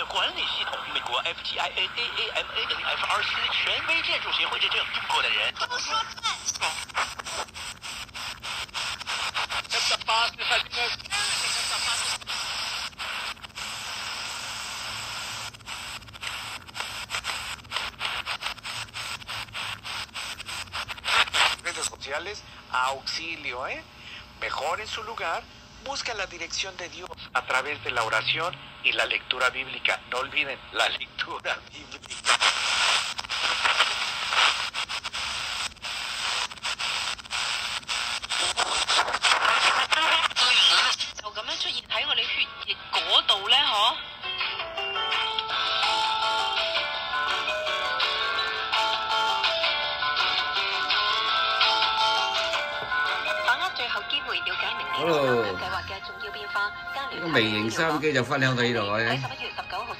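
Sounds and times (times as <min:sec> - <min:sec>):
radio static hiss: 0:00.0 - 0:44.2, 0:45.4 - 0:59.9.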